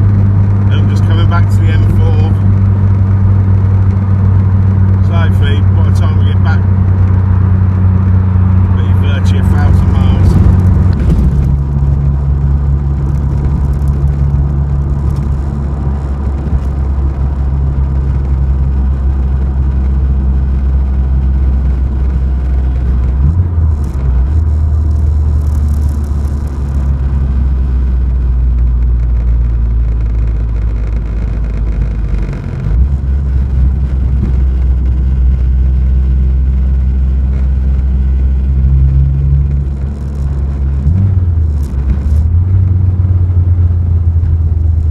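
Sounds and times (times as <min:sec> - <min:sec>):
car engine droning: 0:00.0 - 0:44.9
road rumble: 0:00.0 - 0:44.9.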